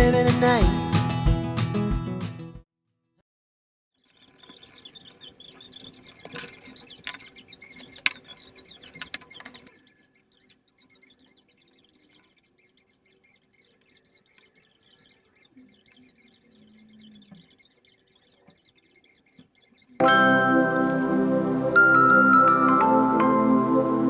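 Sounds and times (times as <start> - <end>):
small clicks: 4.0 - 23.3
light scratching: 4.0 - 23.4.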